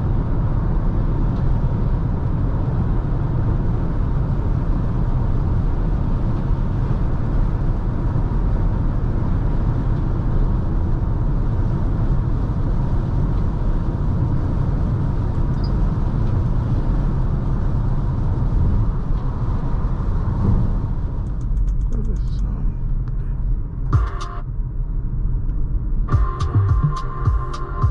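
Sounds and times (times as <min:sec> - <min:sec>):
car engine: 0:00.0 - 0:27.9
road and tyre rumble: 0:00.0 - 0:27.9.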